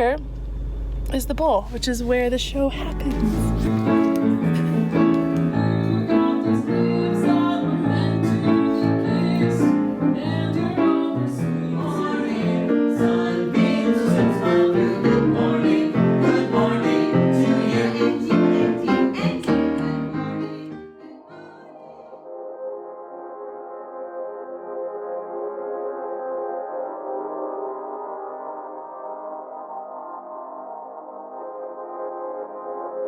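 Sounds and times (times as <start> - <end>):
piano-led music with singing: 3.1 - 33.0.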